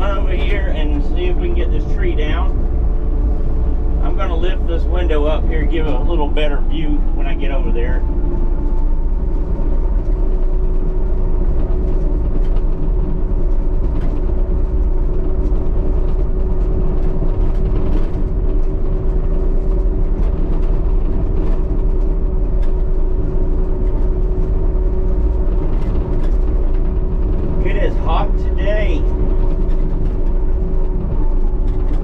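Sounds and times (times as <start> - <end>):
excavator engine running: 0.0 - 32.0
faint clicks and clanks: 0.0 - 32.0.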